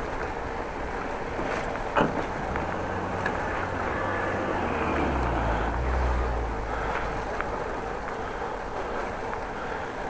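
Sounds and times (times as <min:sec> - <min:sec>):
bicycle rolling on brick paving: 0:00.0 - 0:10.0
low steady rumble: 0:00.0 - 0:10.0.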